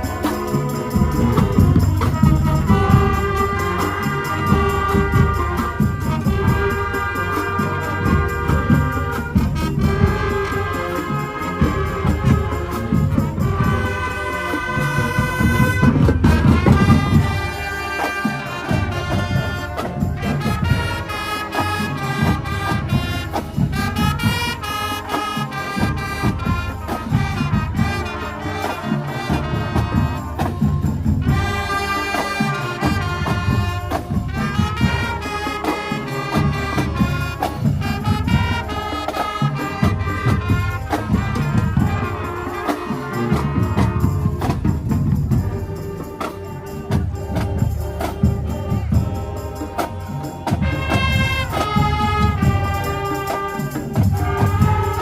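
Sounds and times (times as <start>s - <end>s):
brass melody: 0.0s - 55.0s
driving drumline: 0.0s - 55.0s.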